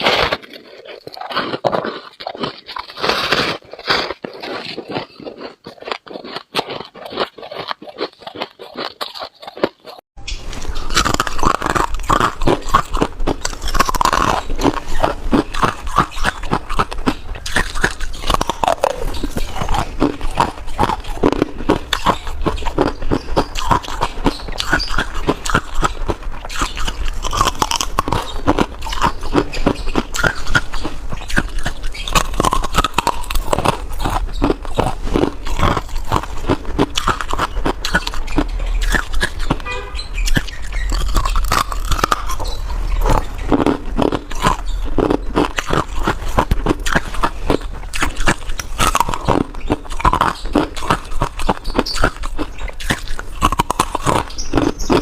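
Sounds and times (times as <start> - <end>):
person crunching frost: 0.0 - 55.0.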